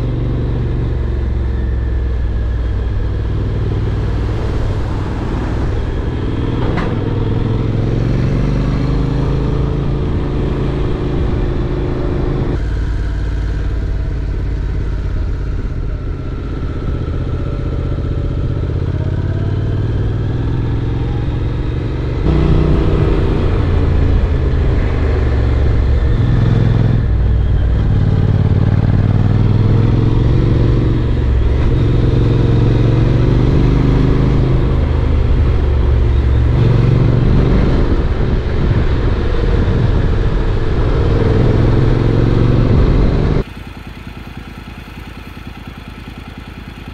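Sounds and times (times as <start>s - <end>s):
wind and road noise: 0.0s - 45.8s
motorcycle engine revving: 0.0s - 46.9s.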